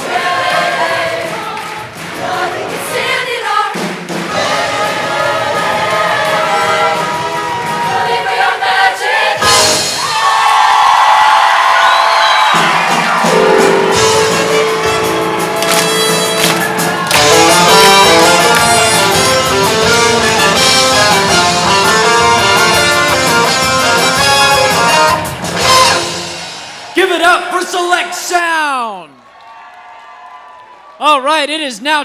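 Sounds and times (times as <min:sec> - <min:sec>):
instrumental band music: 0:00.0 - 0:10.6, 0:12.4 - 0:27.5.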